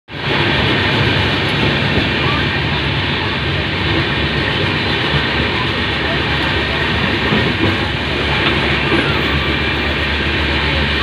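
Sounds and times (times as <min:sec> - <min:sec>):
train wheels running on rails: 0:00.1 - 0:11.0.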